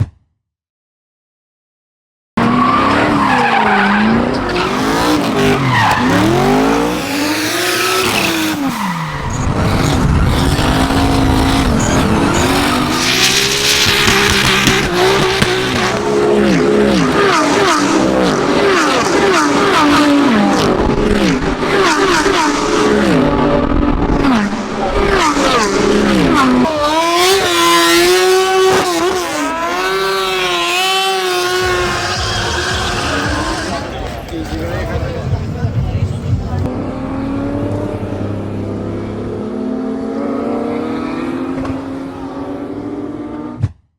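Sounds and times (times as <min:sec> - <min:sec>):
racing car engines revving: 0:02.4 - 0:43.7.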